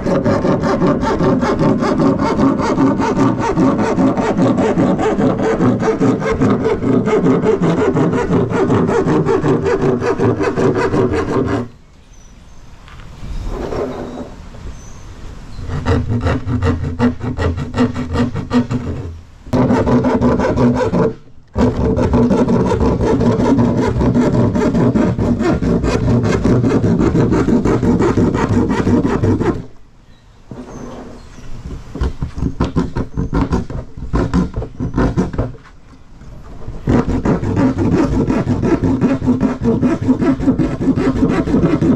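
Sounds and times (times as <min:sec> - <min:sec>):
hand saw cutting plastic: 0:00.0 - 0:11.8, 0:15.7 - 0:29.8, 0:32.0 - 0:35.6, 0:36.7 - 0:41.9.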